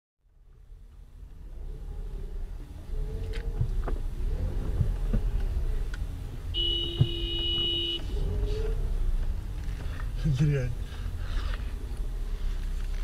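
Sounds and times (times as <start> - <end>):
car road and engine rumble: 0.2 - 13.0.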